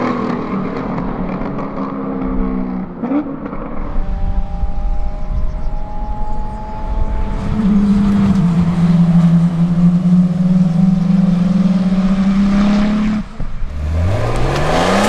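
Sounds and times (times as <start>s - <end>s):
car engine and exhaust: 0.0s - 15.0s.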